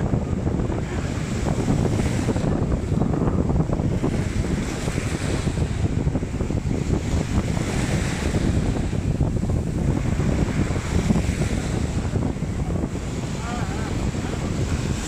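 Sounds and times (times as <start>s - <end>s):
small waves washing on shore: 0.0s - 15.0s
wind buffeting microphone: 0.0s - 15.0s.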